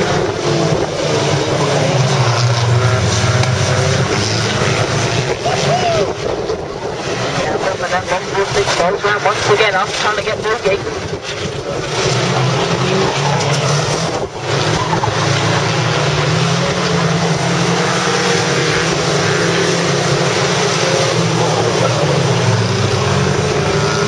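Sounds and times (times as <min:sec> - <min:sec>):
racing car engines: 0:00.0 - 0:24.0.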